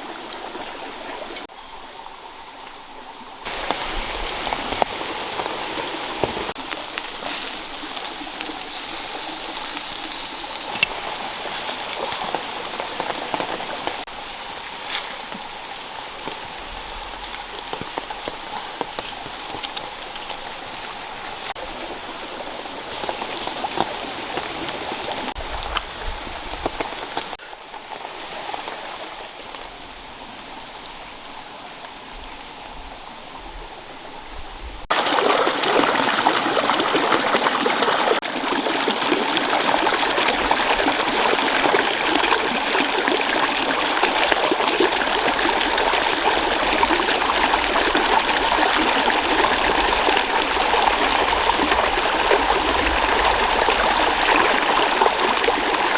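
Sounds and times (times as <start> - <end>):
running water rushing: 3.2 - 31.1, 34.9 - 55.9.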